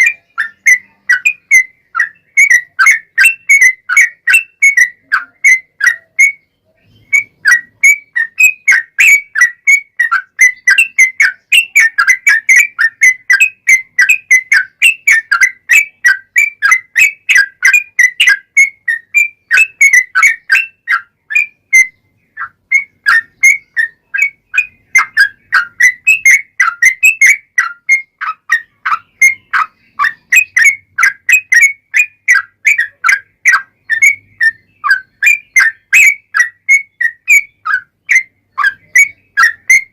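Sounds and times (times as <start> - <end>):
bird song of whistled notes: 0.0 - 39.9.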